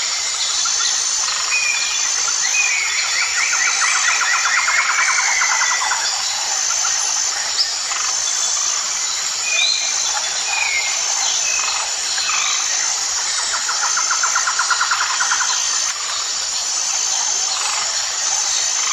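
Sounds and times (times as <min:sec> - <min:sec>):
chorus of buzzing insects: 0:00.0 - 0:18.9.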